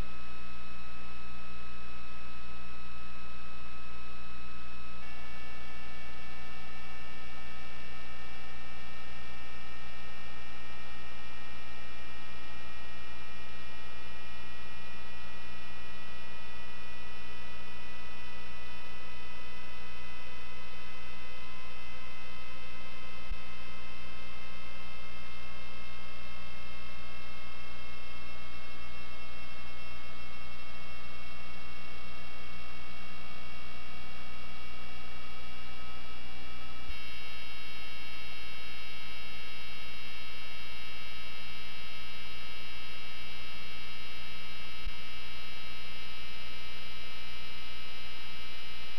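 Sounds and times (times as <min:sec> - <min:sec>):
electrical hum and whine: 0:00.0 - 0:48.9.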